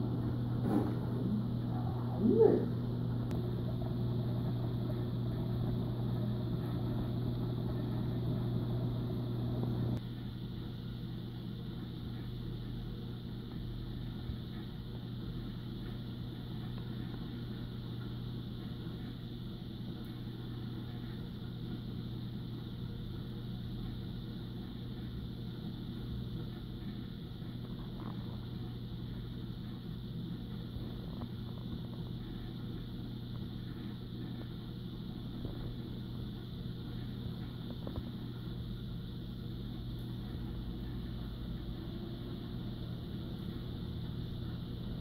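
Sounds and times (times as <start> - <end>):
aquarium pumps humming: 0.0 - 45.0.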